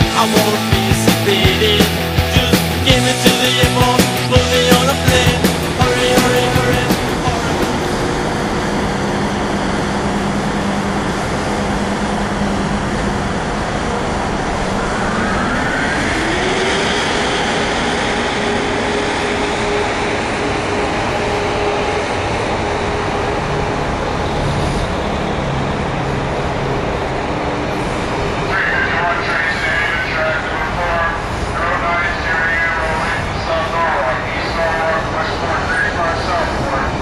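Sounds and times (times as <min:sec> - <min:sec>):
locomotive whine: 0:00.0 - 0:37.0
train wheels rumbling on rail: 0:00.0 - 0:37.0.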